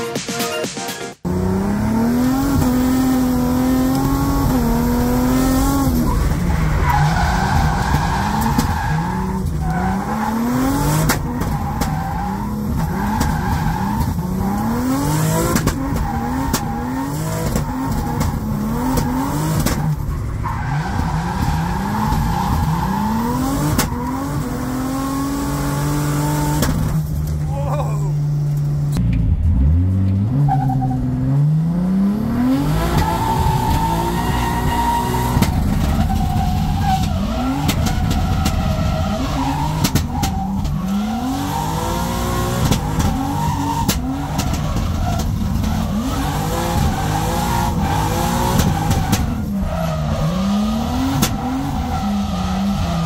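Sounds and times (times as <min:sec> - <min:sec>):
car engine revving hard: 0:01.2 - 0:20.0, 0:20.7 - 0:27.0, 0:31.1 - 0:53.0.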